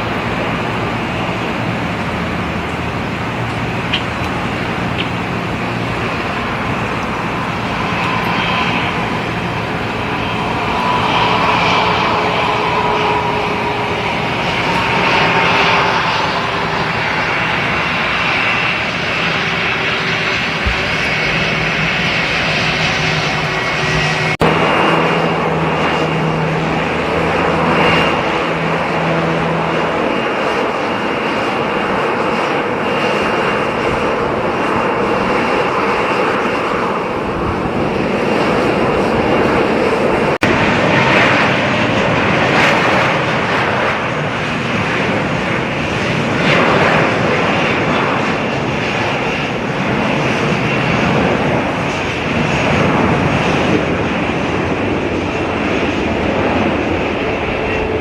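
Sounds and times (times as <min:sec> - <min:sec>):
airliner engines whining: 0:00.0 - 0:58.0.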